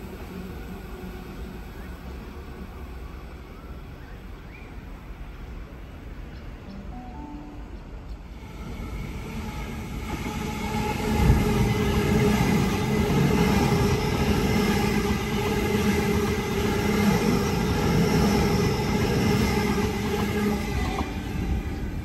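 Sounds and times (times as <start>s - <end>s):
train wheels rumbling on rail: 0.0s - 6.6s, 8.0s - 22.0s
electric train passing: 0.0s - 22.0s.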